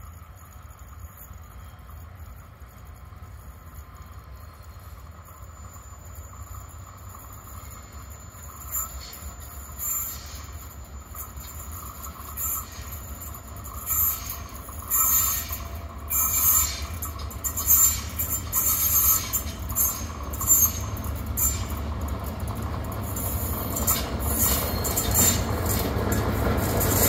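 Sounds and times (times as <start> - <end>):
low train rumble: 0.0 - 27.0
train wheels squealing on rails: 0.0 - 27.0.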